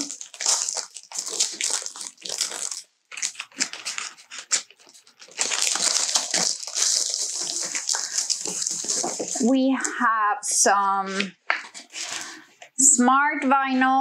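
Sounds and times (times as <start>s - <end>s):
plastic and paper crinkling: 0.0s - 10.1s, 10.9s - 12.6s.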